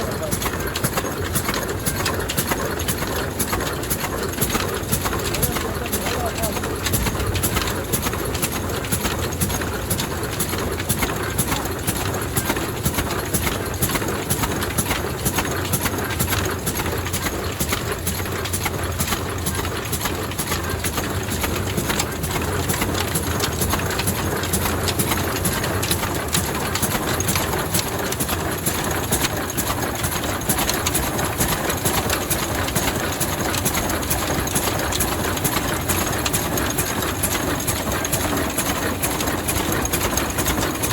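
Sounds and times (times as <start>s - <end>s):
diesel stationary engine clattering: 0.0s - 40.9s.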